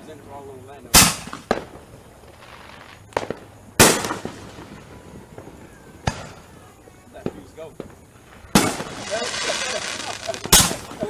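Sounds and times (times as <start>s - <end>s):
firework crack: 0.0s - 11.0s
fireworks bursting with bangs: 0.0s - 11.0s.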